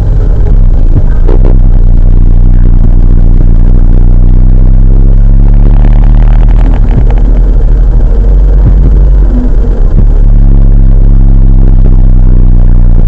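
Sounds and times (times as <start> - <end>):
distorted vehicle engine drone: 0.0 - 13.0
road noise: 0.0 - 13.0.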